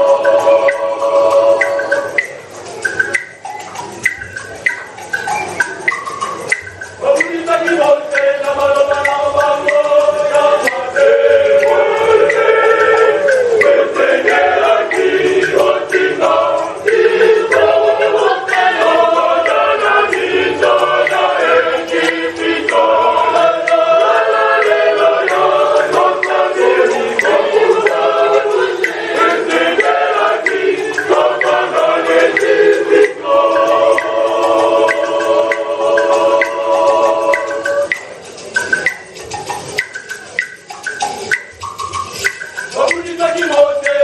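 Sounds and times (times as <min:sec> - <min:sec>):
choir singing in parts: 0:00.0 - 0:44.0.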